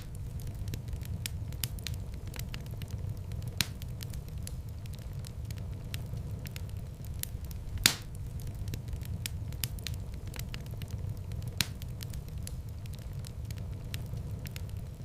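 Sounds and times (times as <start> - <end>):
low rumble of flames: 0.0 - 15.0
sharp pops of burning wood: 0.0 - 15.0
wood fire crackling: 0.0 - 15.0.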